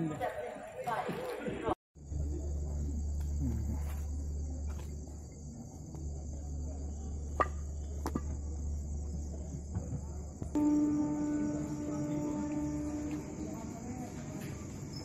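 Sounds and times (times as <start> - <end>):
crickets chirring: 2.0 - 15.0.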